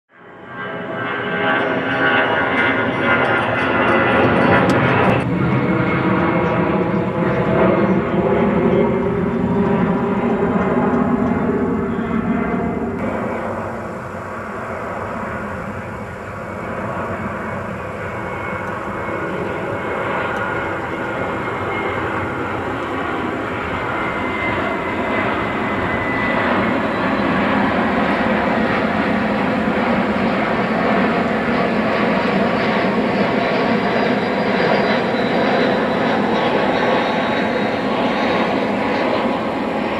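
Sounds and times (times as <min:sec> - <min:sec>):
jet engines rushing: 0:00.2 - 0:39.9
faint high whine: 0:04.8 - 0:39.9.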